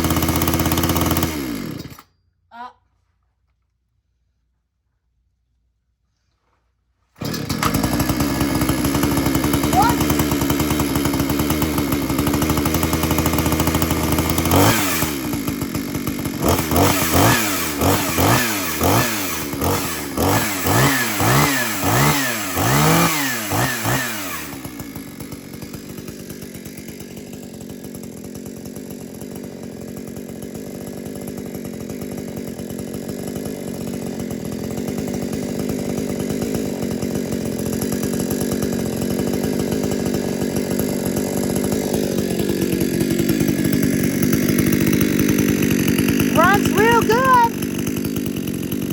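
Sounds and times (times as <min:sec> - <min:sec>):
chainsaw engine revving and idling: 0:00.0 - 0:02.1, 0:07.2 - 0:48.9.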